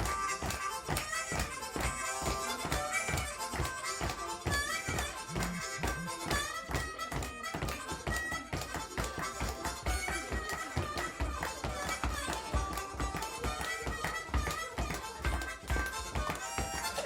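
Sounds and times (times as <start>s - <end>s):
harmonica melody with bent notes: 0.0s - 17.0s
steady rhythmic beat: 0.0s - 17.0s.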